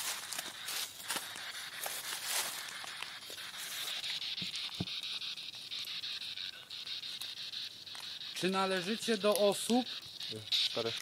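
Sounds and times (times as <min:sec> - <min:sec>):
radio static sweeping in rapid ticks: 0:00.0 - 0:11.0
steady high hiss: 0:00.0 - 0:11.0.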